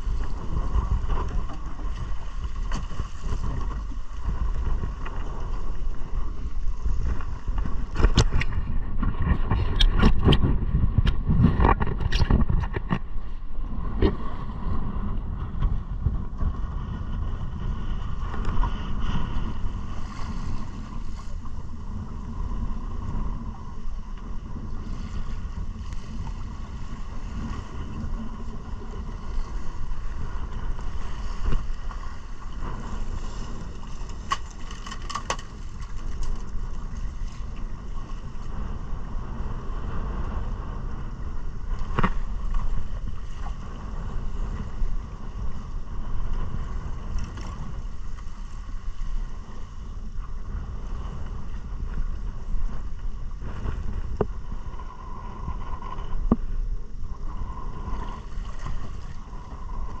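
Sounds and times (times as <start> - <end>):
wind on microphone: 0.0 - 60.0.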